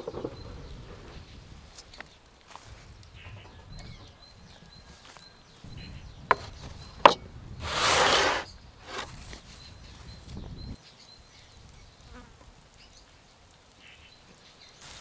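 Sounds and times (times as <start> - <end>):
faint bird chirps: 0.0 - 7.7, 8.3 - 15.0.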